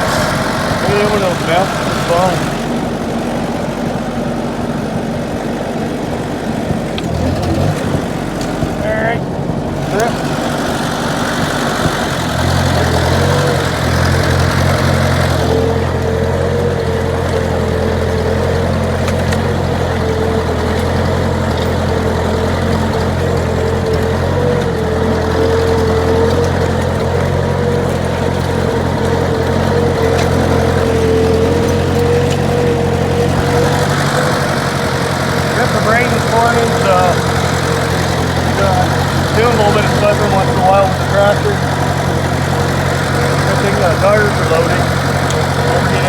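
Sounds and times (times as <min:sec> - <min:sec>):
tractor engine running under load: 0:00.0 - 0:46.0.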